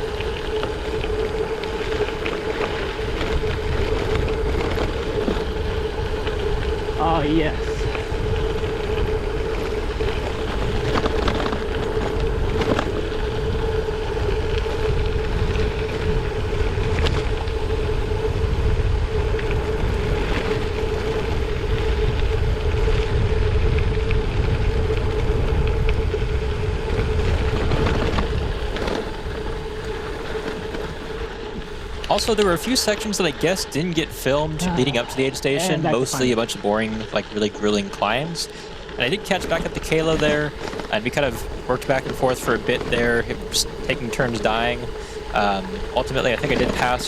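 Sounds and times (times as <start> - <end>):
steady hum: 0.0 - 47.0
tyres rolling on road: 0.0 - 47.0
wind buffeting microphone: 0.0 - 47.0.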